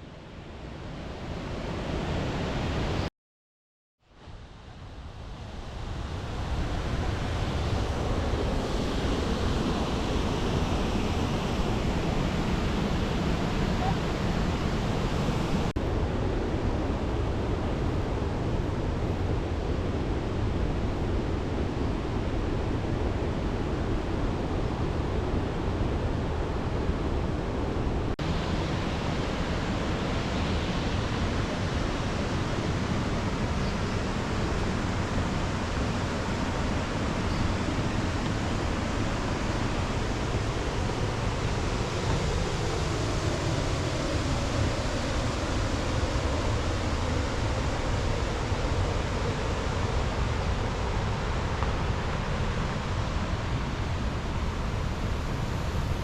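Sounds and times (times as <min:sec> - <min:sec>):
steady rushing noise: 0:05.0 - 0:56.0.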